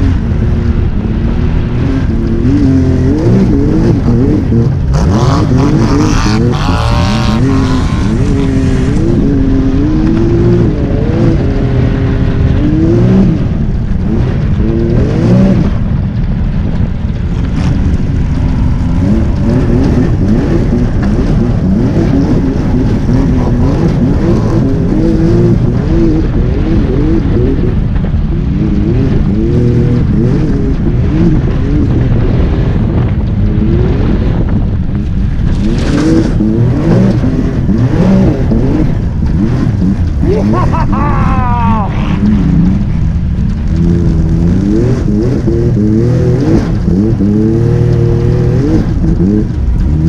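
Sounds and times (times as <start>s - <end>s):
atv engine revving: 0.0s - 50.0s.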